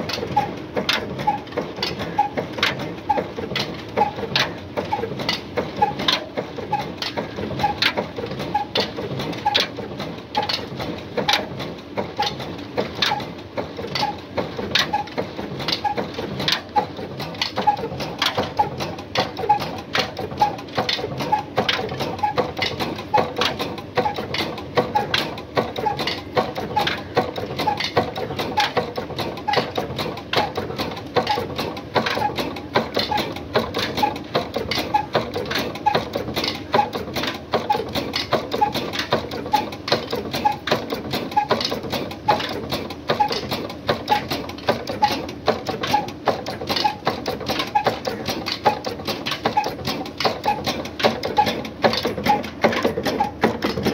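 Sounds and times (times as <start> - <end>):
stationary diesel engine running: 0.0 - 53.9.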